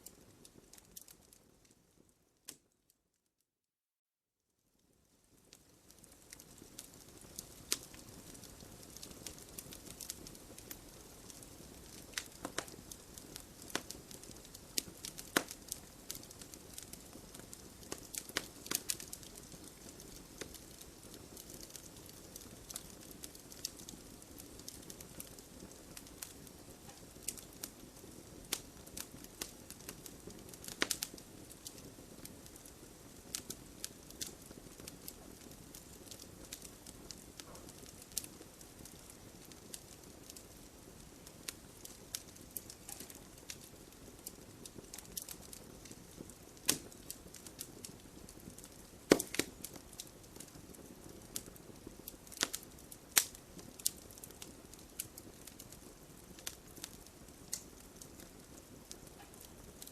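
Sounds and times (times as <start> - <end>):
wood fire crackling and popping: 0.0 - 2.8, 4.8 - 59.9
flames hissing and rumbling: 5.4 - 59.9.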